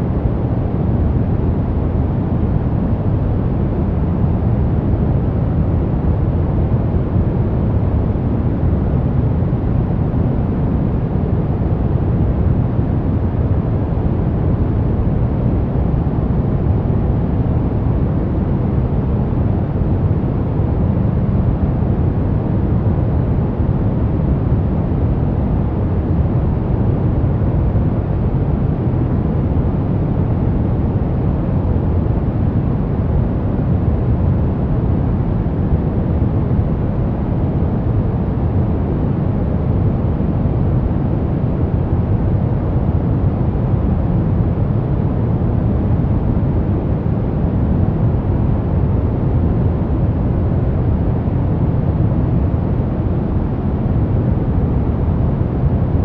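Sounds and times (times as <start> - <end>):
deep muffled white noise: 0.0 - 56.0.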